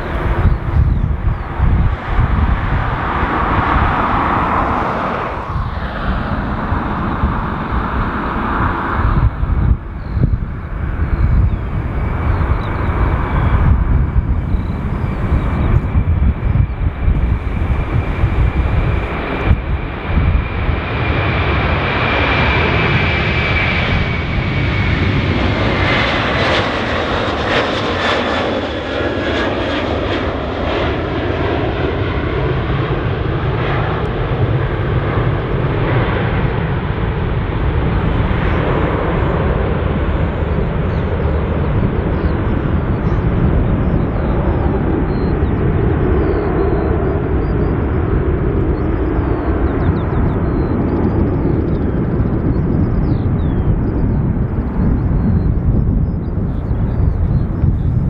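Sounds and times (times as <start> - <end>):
jet engine whine: 0.0 - 58.0
jet engines at takeoff: 0.0 - 58.0.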